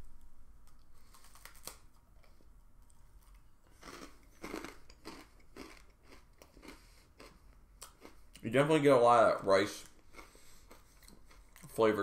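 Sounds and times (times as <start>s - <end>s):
crunching and chewing: 0.7s - 8.5s, 9.6s - 11.8s.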